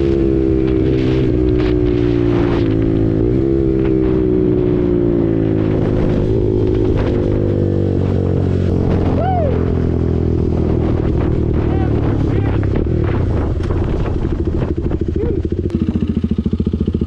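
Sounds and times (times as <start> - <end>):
wind buffeting microphone: 0.0 - 15.8
motorcycle engine cruising: 0.0 - 17.0.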